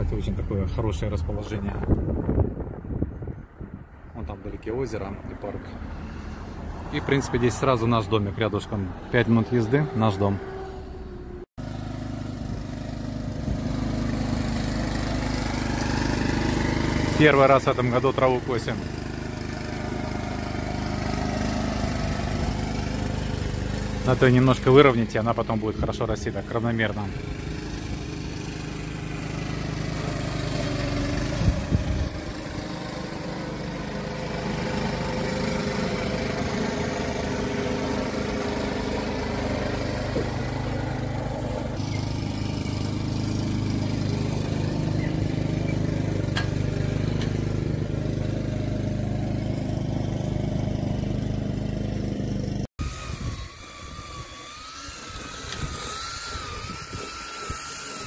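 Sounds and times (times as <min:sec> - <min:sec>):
lawn mower engine running: 0:10.5 - 0:58.0.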